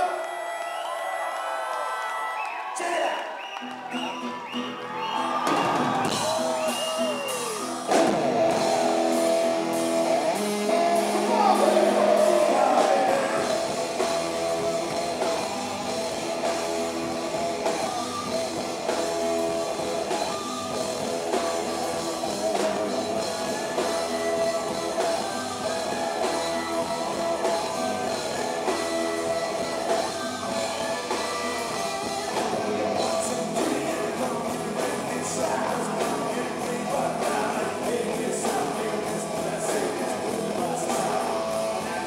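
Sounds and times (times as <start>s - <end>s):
electric guitar: 3.5s - 42.0s
drum kit: 5.2s - 42.0s.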